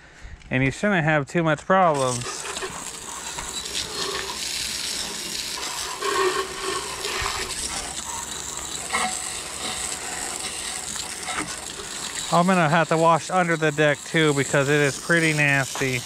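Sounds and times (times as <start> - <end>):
water spraying from hose nozzle: 1.9 - 16.0
water splashing on metal deck: 2.1 - 16.0.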